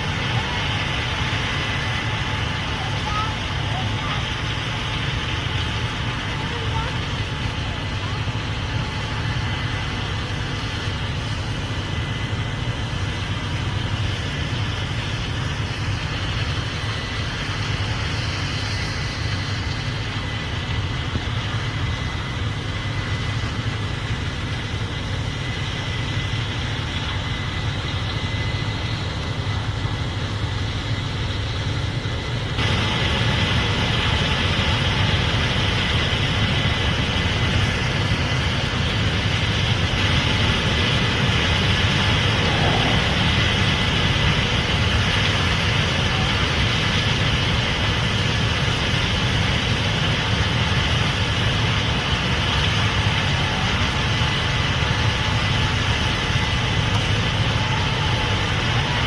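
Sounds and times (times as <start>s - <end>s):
combine engine hum: 0.0s - 59.0s
faint high whine: 0.0s - 59.0s.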